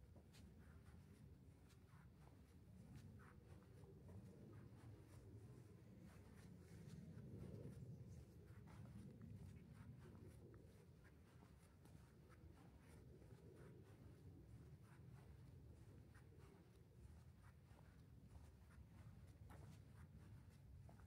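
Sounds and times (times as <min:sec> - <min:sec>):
soft ticks and scratches: 0:00.0 - 0:21.0.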